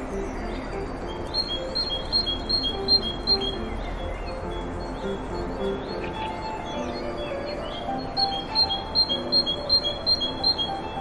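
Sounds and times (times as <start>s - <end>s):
calm background music: 0.0s - 11.0s
high bird chirps: 0.0s - 11.0s.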